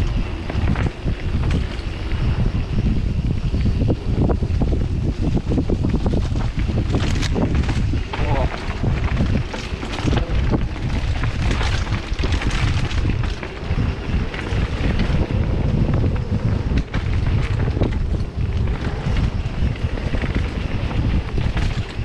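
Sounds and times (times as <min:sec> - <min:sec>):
bike rattling over rough trail: 0:00.0 - 0:22.0
wind rushing over microphone: 0:00.0 - 0:22.0.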